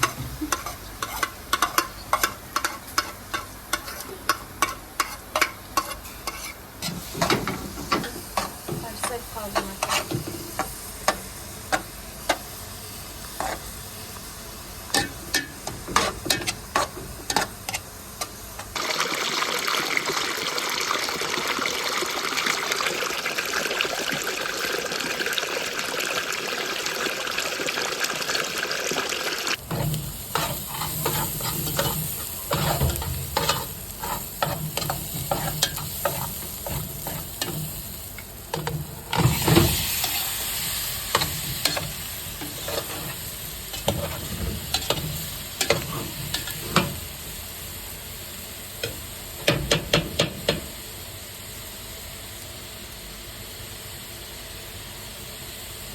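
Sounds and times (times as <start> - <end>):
food frying hiss: 0.0 - 55.9.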